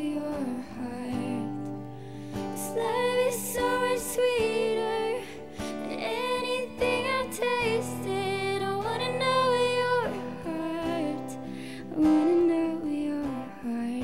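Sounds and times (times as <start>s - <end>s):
person singing long gliding notes: 0.0s - 14.0s.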